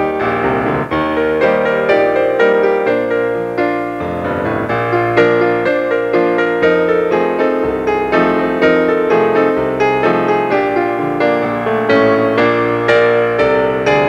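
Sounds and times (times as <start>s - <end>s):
piano music with steady beat: 0.0s - 14.0s.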